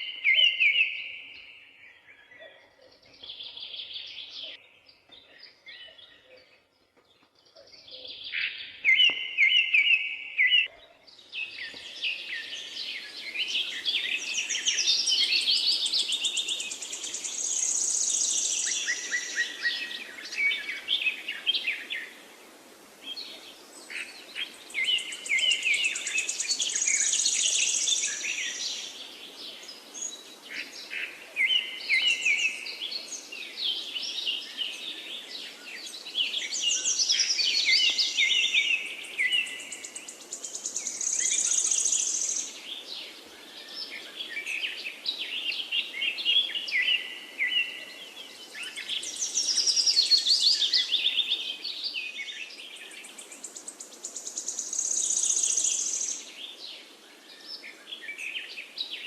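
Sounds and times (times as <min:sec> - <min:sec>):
wild birds singing and chirping: 0:00.0 - 0:59.0
background hiss: 0:06.7 - 0:59.0.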